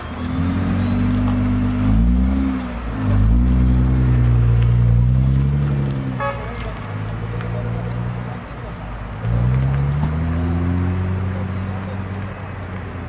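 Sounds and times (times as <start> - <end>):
car engine accelerating: 0.0 - 12.6.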